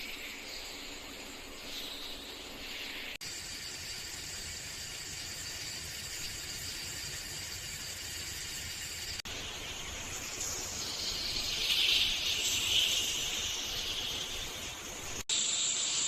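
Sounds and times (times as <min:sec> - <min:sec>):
high insect hum: 0:00.0 - 0:16.0
insects calling in pulses: 0:00.0 - 0:16.0.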